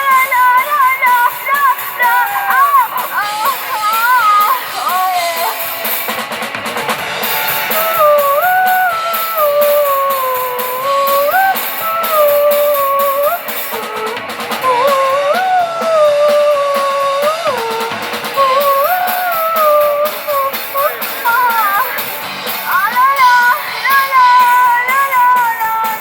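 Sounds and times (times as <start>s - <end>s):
live rock band playing: 0.0s - 26.0s
sliding melodic lead line: 0.0s - 26.0s.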